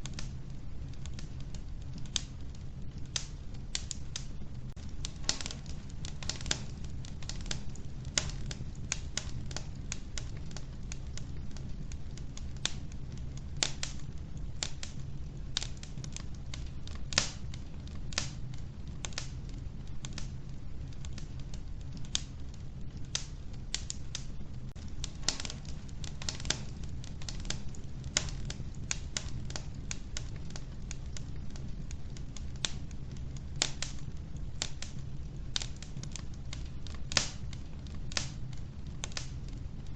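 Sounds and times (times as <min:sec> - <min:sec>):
logs crackling and popping: 0:00.0 - 0:39.9
low rumble of fire: 0:00.0 - 0:39.9.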